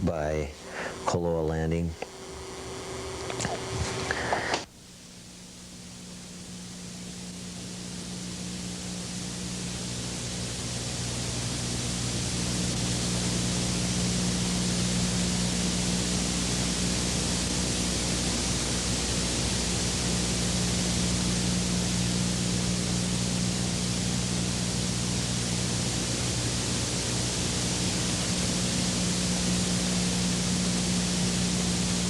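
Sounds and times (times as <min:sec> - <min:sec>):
low electrical hum: 0:00.0 - 0:32.0
steady hiss: 0:00.0 - 0:32.0.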